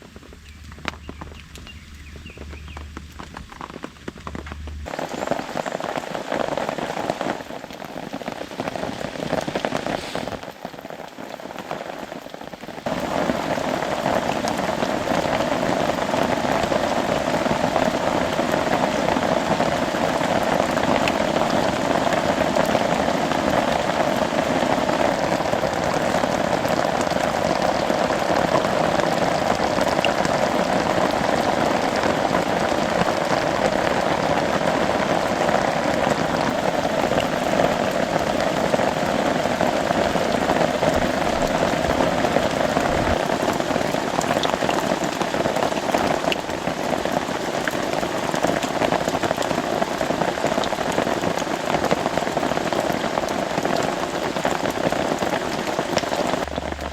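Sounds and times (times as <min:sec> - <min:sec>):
rain falling on a tarp: 0:00.0 - 0:56.9.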